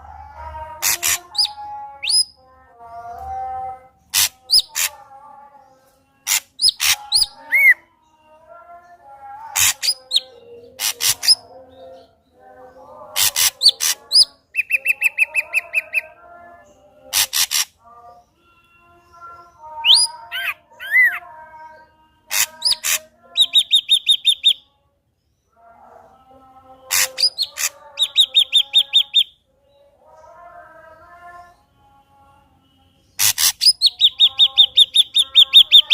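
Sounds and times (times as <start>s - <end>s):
bird song with harsh notes: 0.0s - 35.9s.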